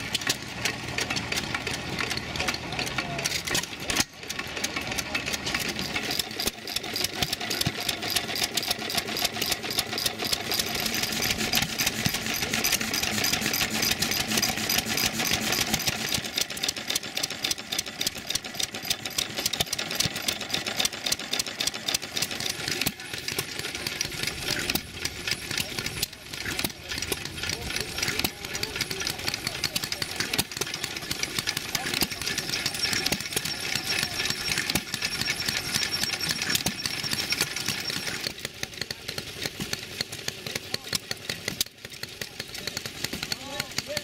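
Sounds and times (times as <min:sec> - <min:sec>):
stationary gas engines running: 0:00.0 - 0:44.0.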